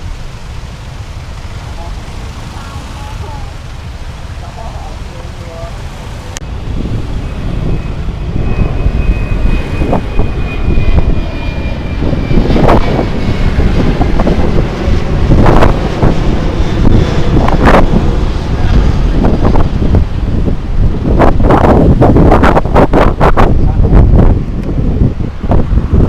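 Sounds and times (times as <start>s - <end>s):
motorcycle engine and road rumble: 0.0s - 26.0s
wind buffeting microphone: 0.0s - 26.0s.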